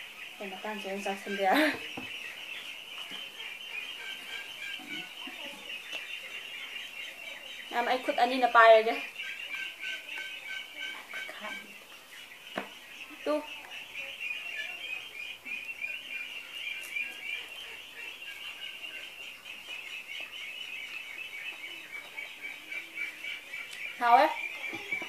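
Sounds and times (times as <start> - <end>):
ducks quacking: 0.0 - 25.0
high-pitched chirping chorus: 0.0 - 25.0.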